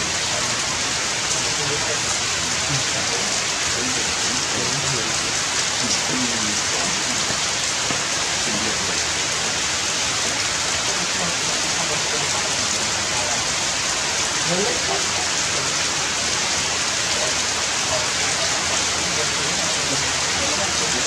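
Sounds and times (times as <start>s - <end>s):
rain falling on leaves: 0.0s - 21.0s.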